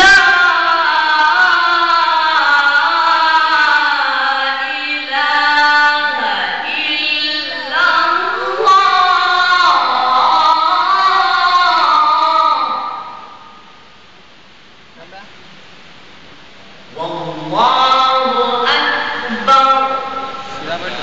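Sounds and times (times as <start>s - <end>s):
man chanting melodically: 0.0s - 13.1s, 16.9s - 21.0s.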